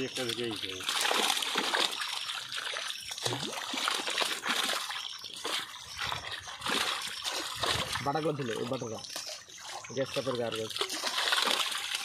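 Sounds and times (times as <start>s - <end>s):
fish splashing in water: 0.0s - 12.0s.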